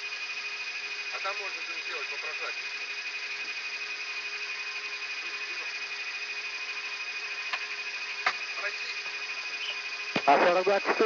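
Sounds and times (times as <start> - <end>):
high whine: 0.0 - 11.0.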